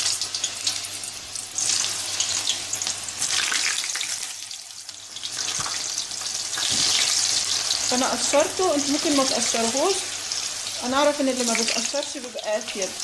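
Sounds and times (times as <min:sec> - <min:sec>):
eggplant frying in hot oil: 0:00.0 - 0:13.0.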